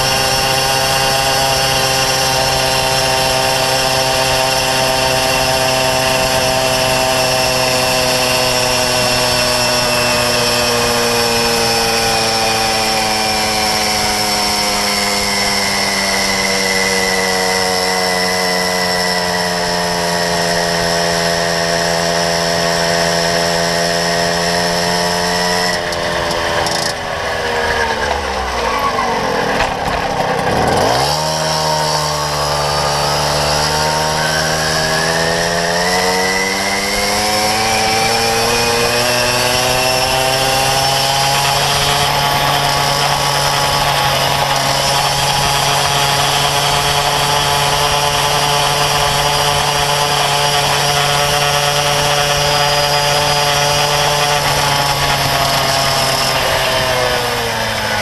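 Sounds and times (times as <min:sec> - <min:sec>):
moped engine revving: 0:00.0 - 0:58.0.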